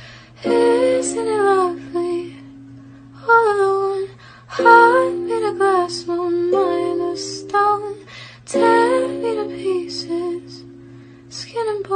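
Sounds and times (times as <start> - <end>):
sustained backing tones: 0.0 - 11.9
wordless vocal song: 0.4 - 2.5, 3.3 - 11.6.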